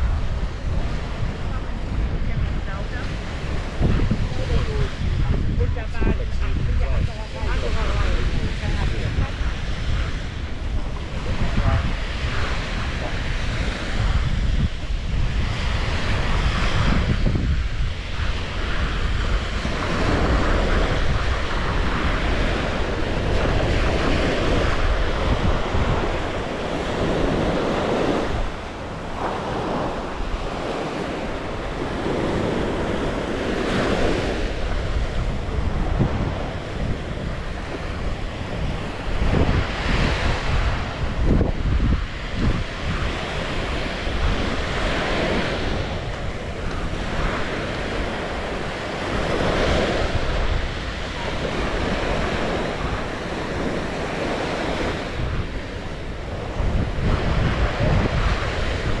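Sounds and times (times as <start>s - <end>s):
waves breaking on sandy shore: 0.0s - 59.0s
wind buffeting microphone: 0.0s - 59.0s.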